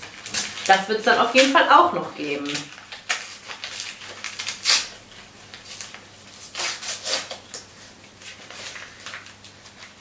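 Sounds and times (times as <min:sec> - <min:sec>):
wrapping paper rustling: 0:00.0 - 0:10.0.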